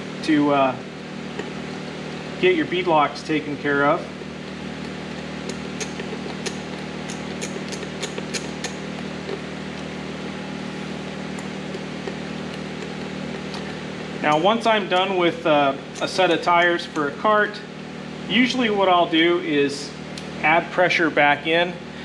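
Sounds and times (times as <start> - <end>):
shop machinery hum: 0.0 - 22.0.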